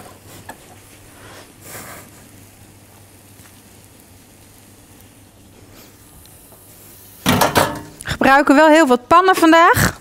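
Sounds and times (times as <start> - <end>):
low steady hum: 0.0 - 9.2
omelet sizzling in a pan: 0.0 - 9.7.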